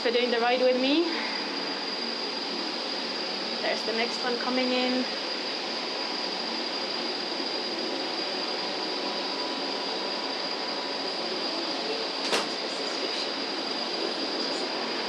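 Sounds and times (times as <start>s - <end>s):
cable car machinery whining: 0.0s - 15.0s.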